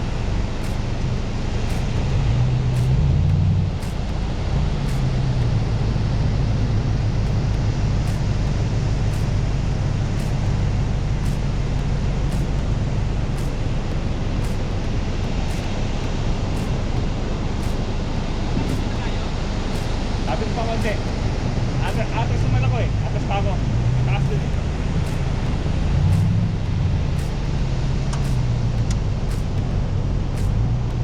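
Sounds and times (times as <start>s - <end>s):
low engine drone: 0.0s - 31.0s
road noise: 0.0s - 31.0s.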